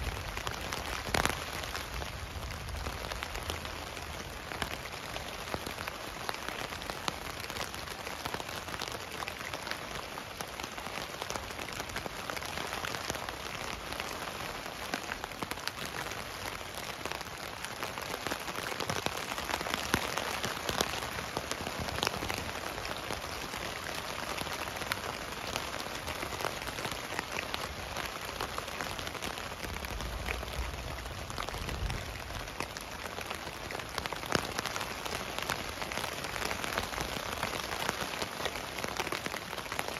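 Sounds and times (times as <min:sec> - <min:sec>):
rain pattering on tent fabric: 0:00.0 - 0:39.9.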